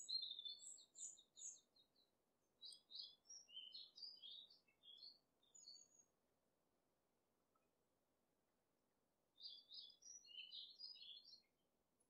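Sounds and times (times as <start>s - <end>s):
faint birdsong: 0.0s - 8.0s, 8.6s - 12.0s.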